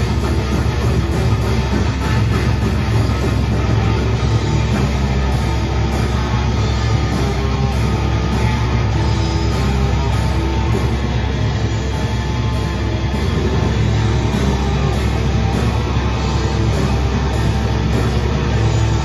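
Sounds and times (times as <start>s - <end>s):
bass guitar: 0.0s - 19.0s
distorted electric guitar: 0.0s - 19.0s
drums: 0.0s - 19.0s.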